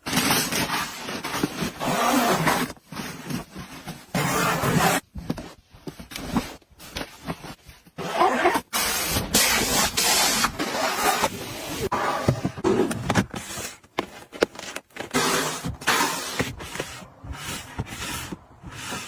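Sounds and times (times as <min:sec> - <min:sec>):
household items handled: 0:00.0 - 0:19.0.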